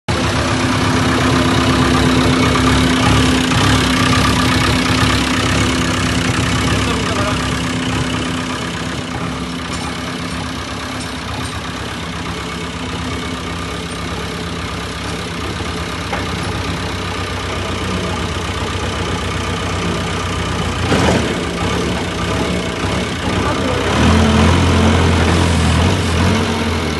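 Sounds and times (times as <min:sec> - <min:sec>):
diesel engine idling: 0:00.1 - 0:26.9.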